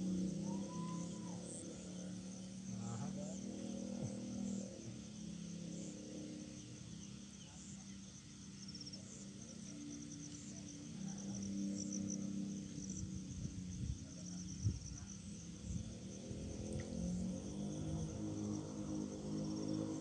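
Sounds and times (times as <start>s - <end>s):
faint low hum: 0.0s - 20.0s
insects chirping in a fast trill: 0.0s - 20.0s.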